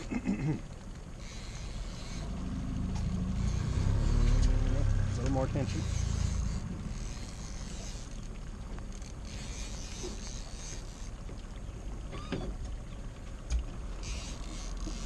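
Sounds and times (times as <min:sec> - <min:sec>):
boat low rumble: 0:00.0 - 0:15.0
water and wind hiss: 0:00.0 - 0:15.0.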